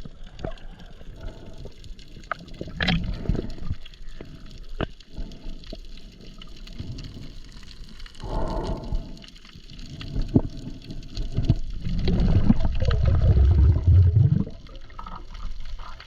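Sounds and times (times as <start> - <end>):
water sloshing and gurgling: 0.0 - 16.0.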